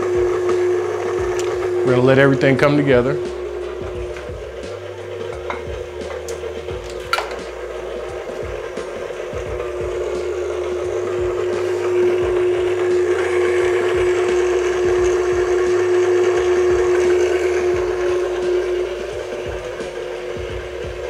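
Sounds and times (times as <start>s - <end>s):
stand mixer whisking: 0.0s - 21.0s.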